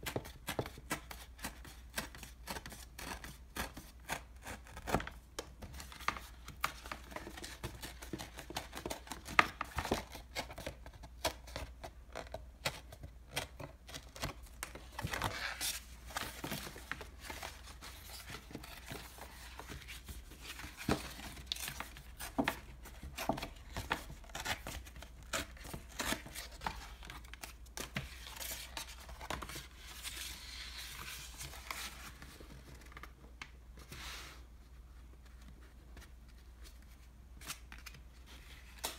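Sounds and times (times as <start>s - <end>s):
paperboard crackling and rustling: 0.0s - 34.4s.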